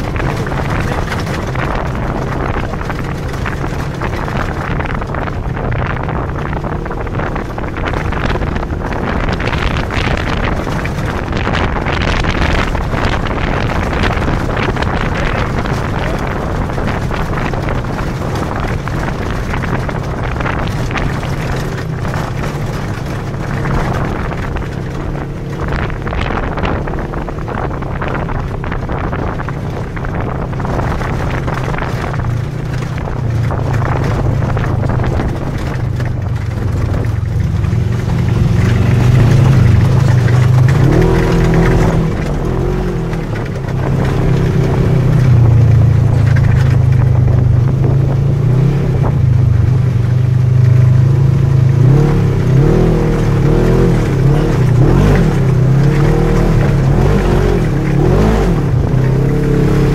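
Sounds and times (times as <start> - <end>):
off-road vehicle engine running: 0.0 - 59.9
wind noise on microphone: 0.0 - 59.9.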